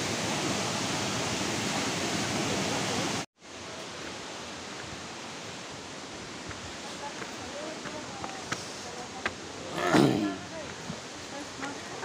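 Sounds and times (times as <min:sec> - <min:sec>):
outdoor background hiss: 0:00.0 - 0:12.0
waterfall rushing: 0:00.0 - 0:12.0.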